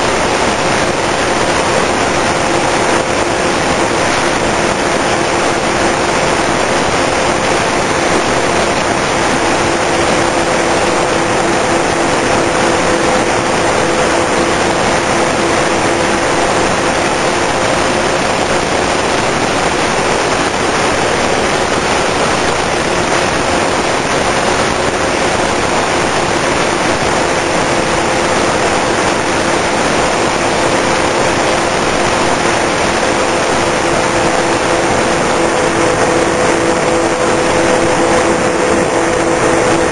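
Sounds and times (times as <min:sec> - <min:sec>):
electric motors whining: 0:00.0 - 0:39.9
wind rush on microphone: 0:00.0 - 0:39.9.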